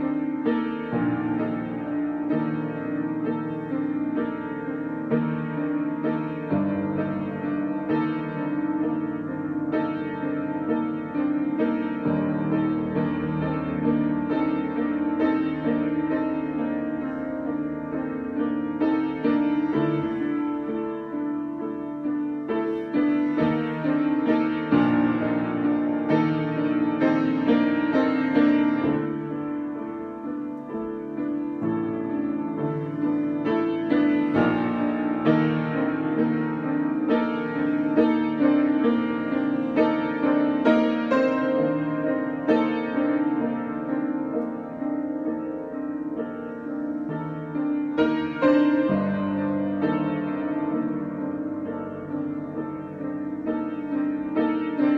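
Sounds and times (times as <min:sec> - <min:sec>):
solo piano improvisation: 0:00.0 - 0:54.9.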